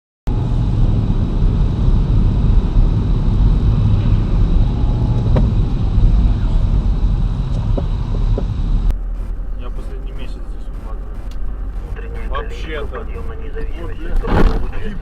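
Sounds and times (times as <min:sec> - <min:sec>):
car engine and road noise: 0:00.3 - 0:15.0.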